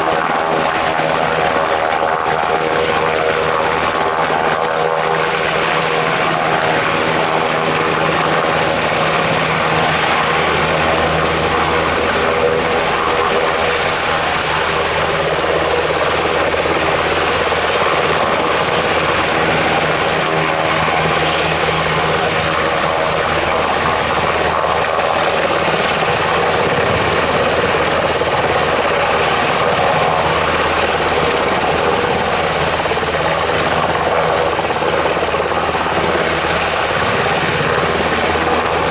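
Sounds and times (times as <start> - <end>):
helicopter rotor thrum: 0.0 - 38.9
turbine engine whine: 0.0 - 38.9.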